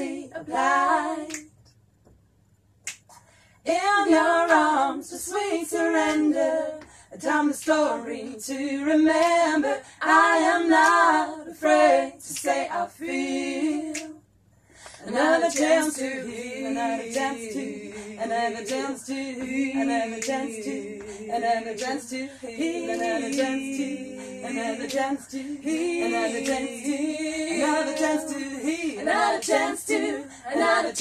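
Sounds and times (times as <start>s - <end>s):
women singing a cappella: 0.0s - 1.7s, 3.6s - 31.0s.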